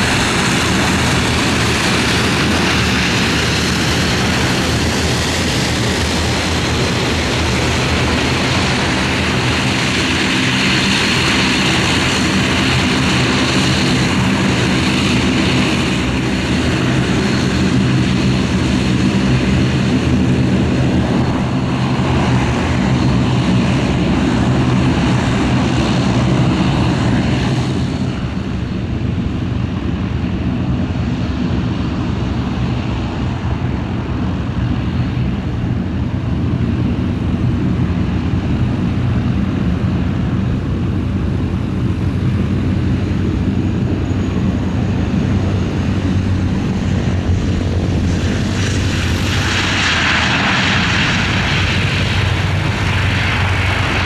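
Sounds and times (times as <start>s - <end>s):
propeller drone: 0.0s - 54.0s.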